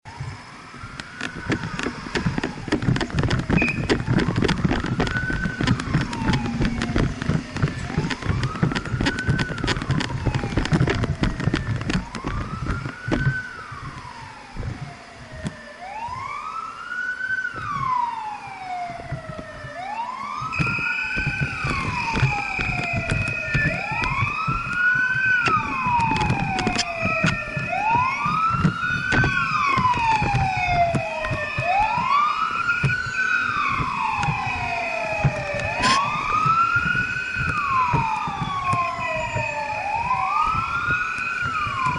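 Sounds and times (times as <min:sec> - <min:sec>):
fire truck siren wailing: 0:00.1 - 0:41.9
traffic rumble: 0:00.1 - 0:41.9.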